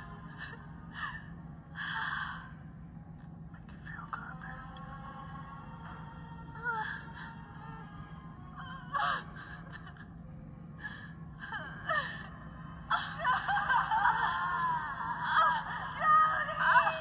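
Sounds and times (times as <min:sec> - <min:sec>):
woman sobbing and wailing: 0:00.0 - 0:02.6, 0:05.9 - 0:17.0.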